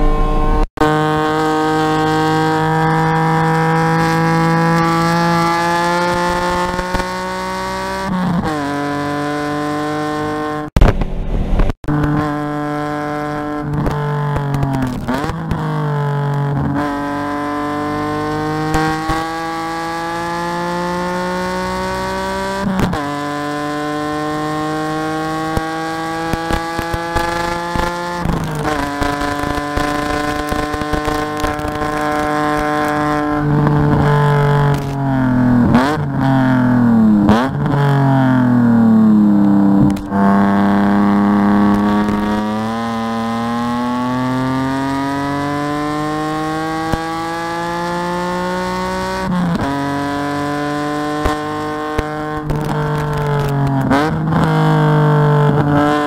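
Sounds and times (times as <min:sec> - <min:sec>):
race car engine accelerating: 0:00.0 - 0:10.7, 0:11.3 - 0:56.0.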